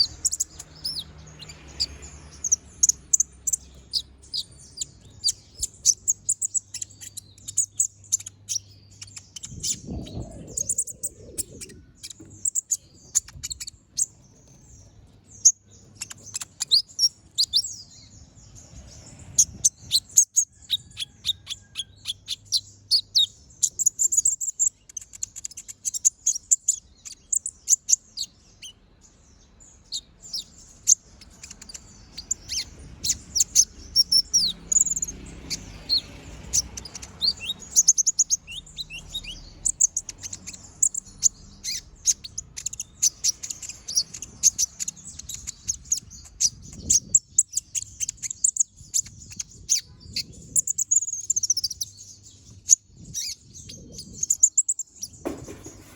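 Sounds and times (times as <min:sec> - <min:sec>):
bird singing rapid chirps: 0:00.0 - 0:55.9.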